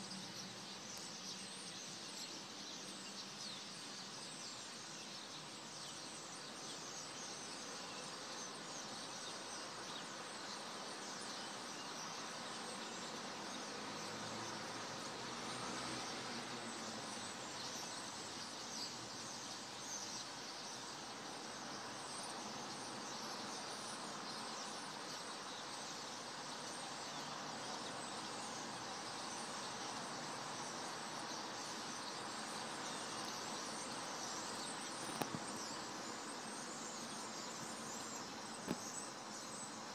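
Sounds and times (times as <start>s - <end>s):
insects: 0.0s - 39.9s.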